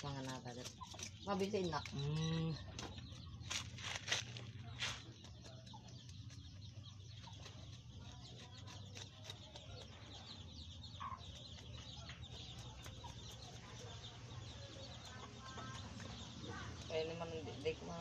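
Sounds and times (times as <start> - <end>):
faint chickens clucking: 0.0 - 18.0.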